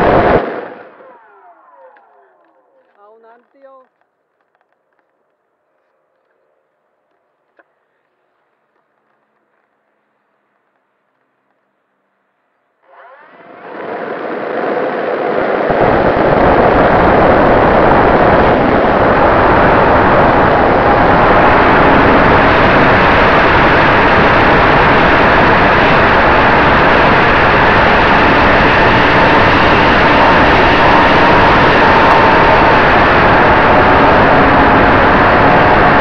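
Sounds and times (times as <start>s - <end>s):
model plane motor and propeller: 0.0s - 9.9s, 12.8s - 36.0s.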